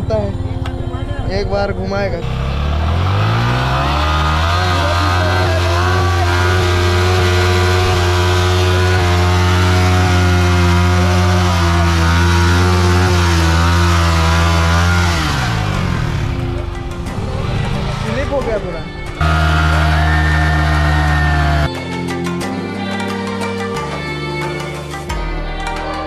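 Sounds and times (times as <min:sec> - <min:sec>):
motorcycle engine revving: 0:00.0 - 0:21.7.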